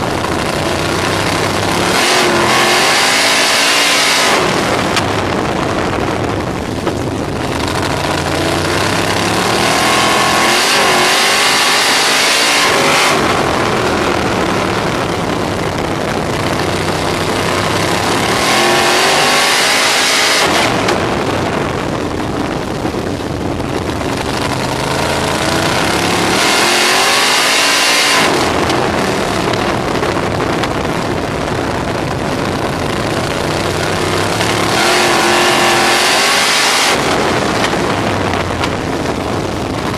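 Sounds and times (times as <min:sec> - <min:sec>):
racing car engine: 0:00.0 - 0:39.9
rush of wind and track noise: 0:00.0 - 0:39.9.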